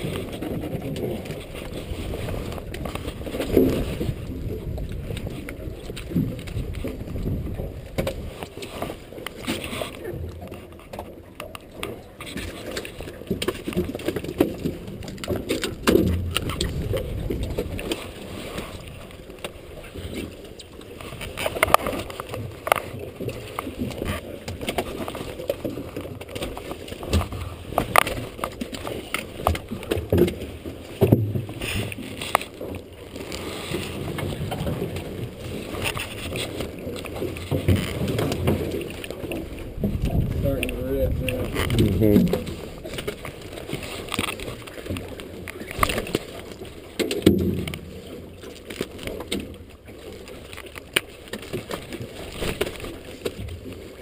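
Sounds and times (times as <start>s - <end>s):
muffled water wash: 0.0s - 54.0s.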